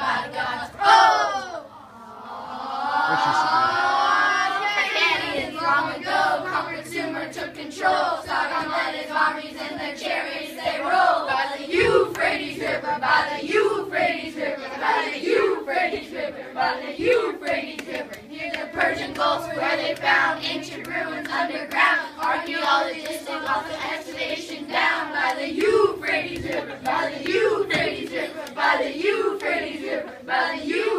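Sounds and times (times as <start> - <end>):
children singing together: 0.0 - 30.9.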